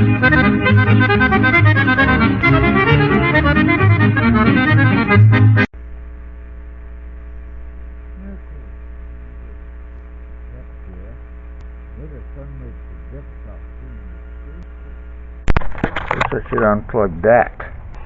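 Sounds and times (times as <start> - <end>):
microphone electrical hum: 0.0 - 18.0.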